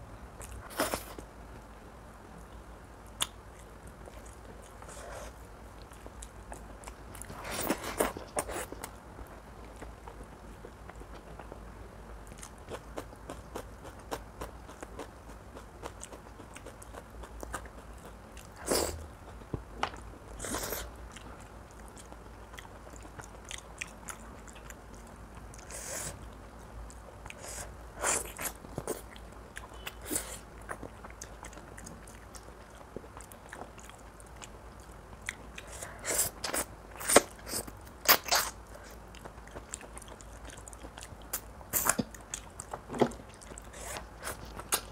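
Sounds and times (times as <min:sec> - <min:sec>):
steady low hum: 0:00.0 - 0:44.9
chewing with wet mouth clicks: 0:02.4 - 0:18.6, 0:19.3 - 0:35.8, 0:36.4 - 0:44.9.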